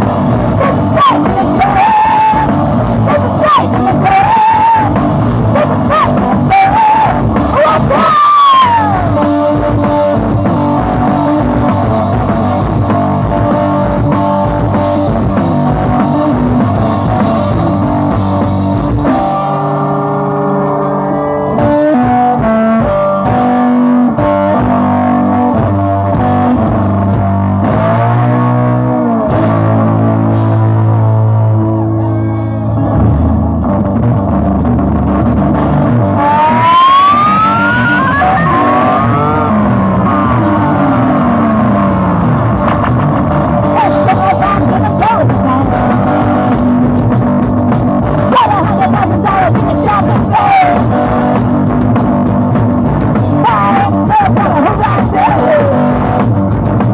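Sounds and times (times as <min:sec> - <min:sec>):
drum kit: 0:00.0 - 0:56.9
electric guitar riffs: 0:00.0 - 0:56.9.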